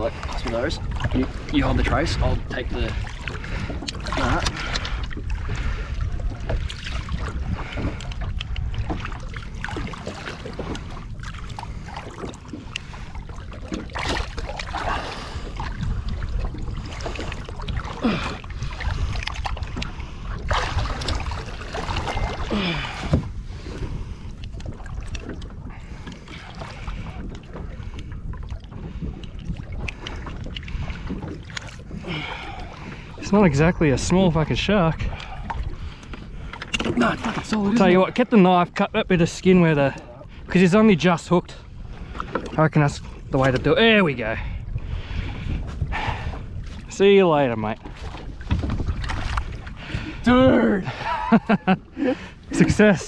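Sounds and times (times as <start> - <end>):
wind on microphone: 0.0 - 38.0, 38.7 - 53.0
water slopping against boat hull: 0.0 - 53.0.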